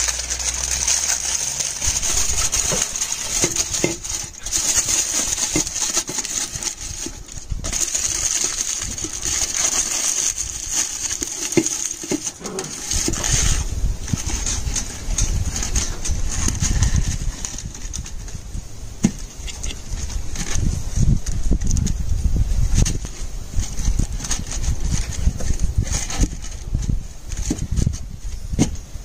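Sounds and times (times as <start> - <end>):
aluminium foil crinkling: 0.0 - 18.4, 19.0 - 28.4.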